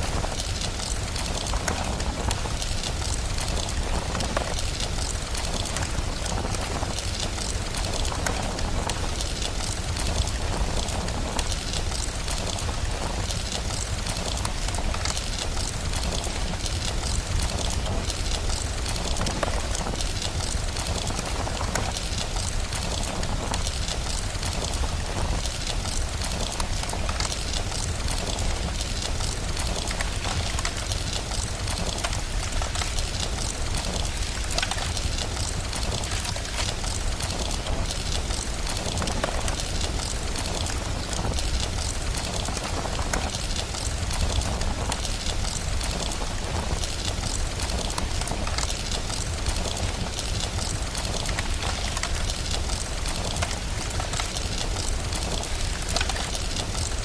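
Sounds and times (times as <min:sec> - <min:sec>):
rain hiss: 0:00.0 - 0:57.0
wood fire crackling: 0:00.0 - 0:57.0.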